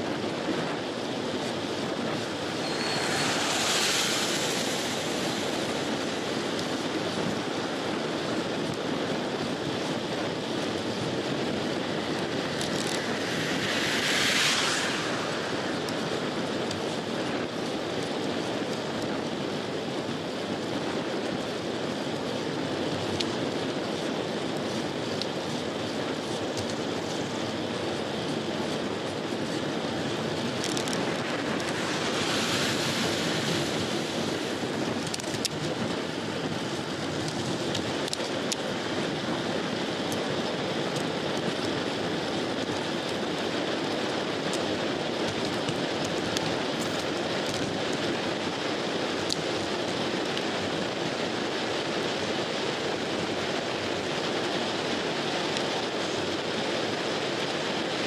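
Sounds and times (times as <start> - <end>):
bike tyres on road: 0.0 - 58.0
wind on microphone: 0.0 - 58.0.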